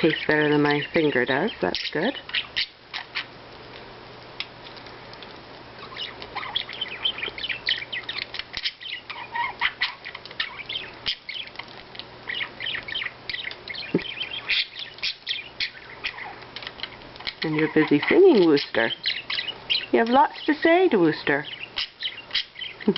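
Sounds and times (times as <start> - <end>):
budgerigar warbling and chattering: 0.0 - 3.3, 5.8 - 11.5, 12.3 - 22.9.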